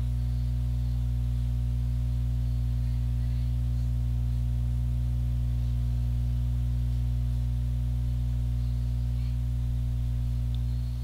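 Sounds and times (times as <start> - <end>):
low electronic hum: 0.0 - 11.0.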